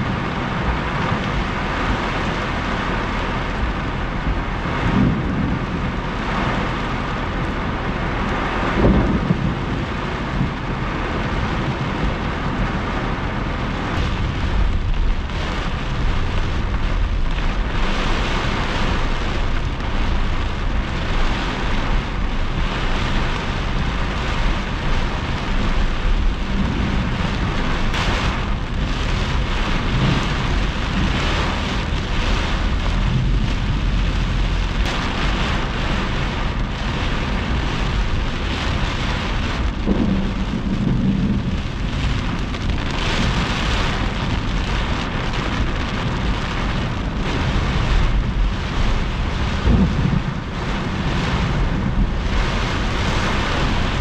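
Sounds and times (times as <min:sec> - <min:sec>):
heavy rain on car roof: 0:00.0 - 0:54.0
low rumble: 0:00.0 - 0:54.0.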